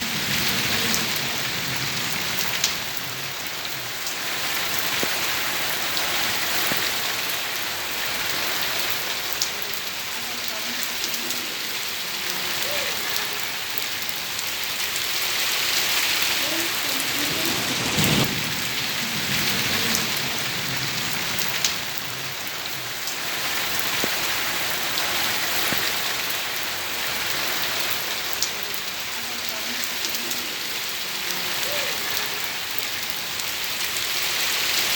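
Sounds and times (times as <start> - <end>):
rain on hard surfaces: 0.0 - 34.9.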